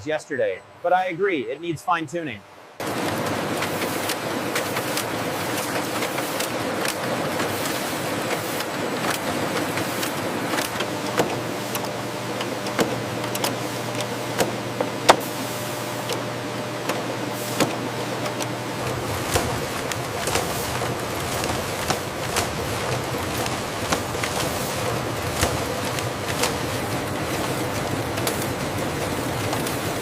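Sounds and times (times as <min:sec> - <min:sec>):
factory machinery running: 0:00.0 - 0:30.0
sharp mechanical clicks and clacks: 0:02.8 - 0:15.2, 0:17.6 - 0:30.0.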